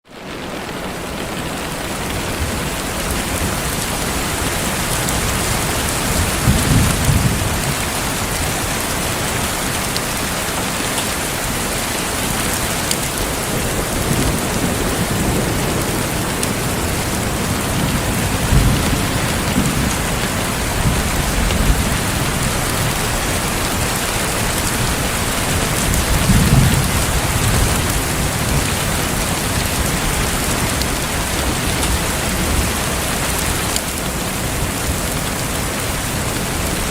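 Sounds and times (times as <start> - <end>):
heavy rain falling: 0.0 - 36.9
rolling thunder: 2.4 - 36.9.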